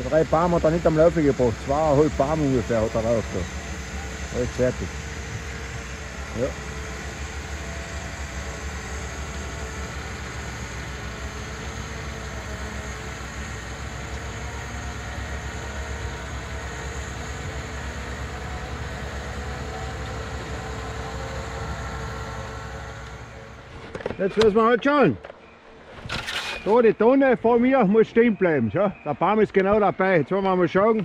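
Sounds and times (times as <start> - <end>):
diesel engine rumbling: 0.0 - 31.0.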